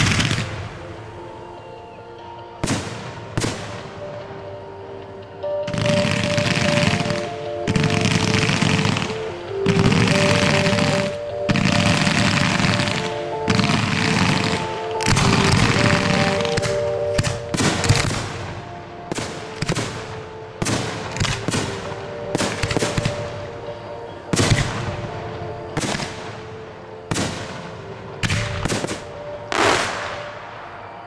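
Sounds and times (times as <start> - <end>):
show music: 0.0 - 31.0.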